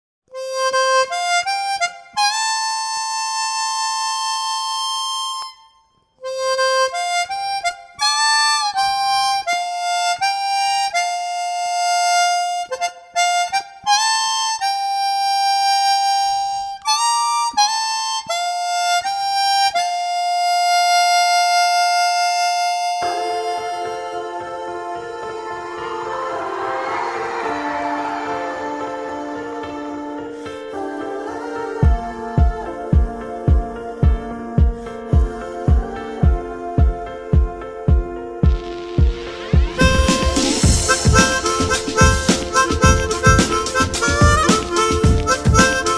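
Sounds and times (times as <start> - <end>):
reedy melody: 0.3 - 45.9.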